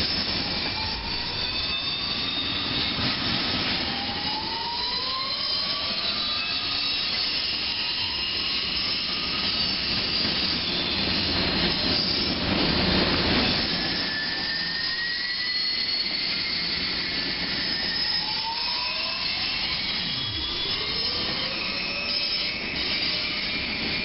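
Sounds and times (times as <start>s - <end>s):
faint thin squeals: 0.0s - 3.8s, 5.2s - 24.0s
freight train wheel and rail noise: 0.0s - 24.0s.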